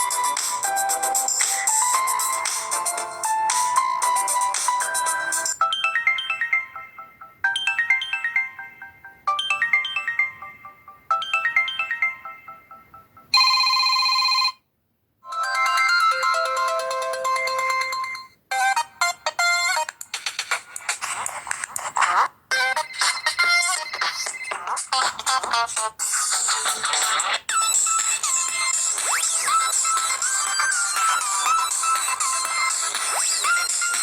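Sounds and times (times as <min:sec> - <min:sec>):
electronic ringtone melody: 0:00.0 - 0:14.6, 0:15.2 - 0:19.9, 0:22.5 - 0:34.0.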